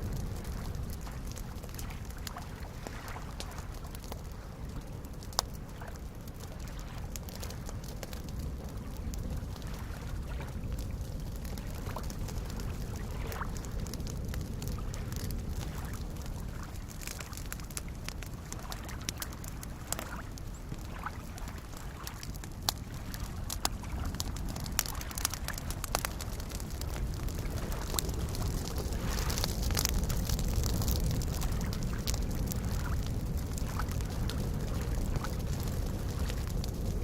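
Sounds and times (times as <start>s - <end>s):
campfire crackling and popping: 0.0s - 37.0s
lake waves lapping: 0.4s - 7.6s, 9.5s - 13.7s, 14.6s - 36.5s.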